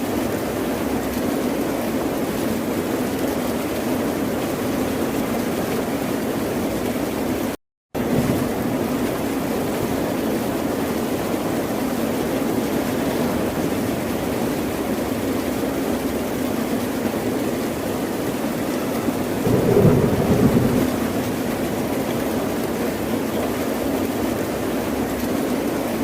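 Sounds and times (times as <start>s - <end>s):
ocean waves washing on shore: 3.6s - 26.0s.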